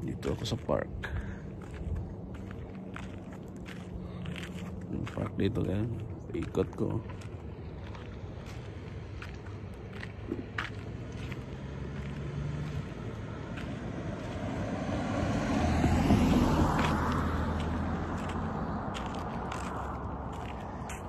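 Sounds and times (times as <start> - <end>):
car passing on road: 0.0 - 21.0.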